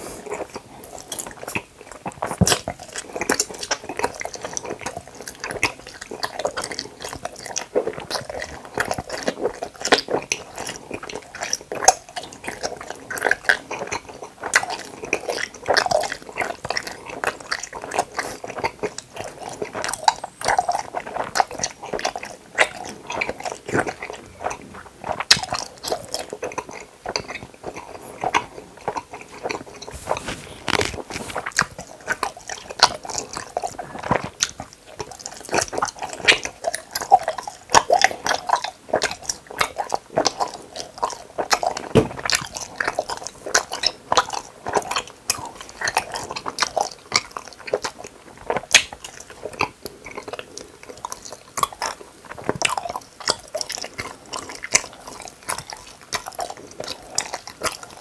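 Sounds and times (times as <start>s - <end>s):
chewing gummy candy: 0.0s - 58.0s.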